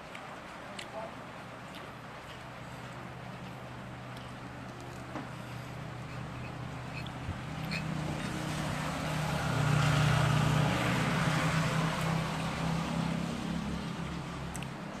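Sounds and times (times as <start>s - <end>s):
vehicle engine humming: 1.9s - 15.0s.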